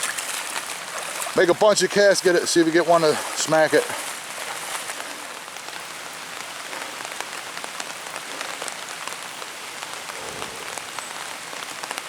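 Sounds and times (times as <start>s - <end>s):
raindrops ticking close: 0.0s - 10.2s
steady rain falling: 0.0s - 12.0s.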